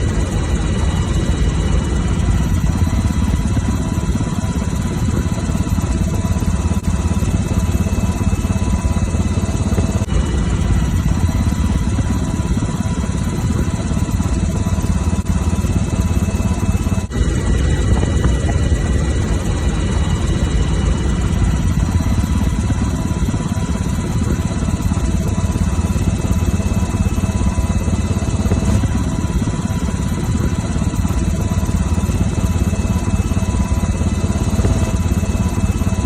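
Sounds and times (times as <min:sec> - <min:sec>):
helicopter rotor and engine drone: 0:00.0 - 0:36.0.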